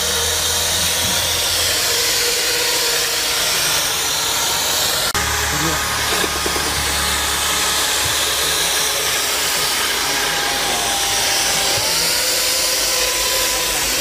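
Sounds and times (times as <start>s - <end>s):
floating machine whirring on cement: 0.0s - 14.0s.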